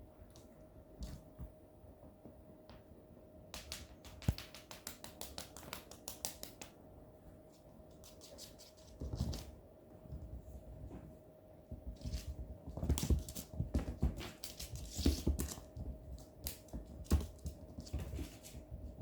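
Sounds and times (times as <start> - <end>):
cats playing with light clicks: 2.2 - 10.7, 11.6 - 19.0.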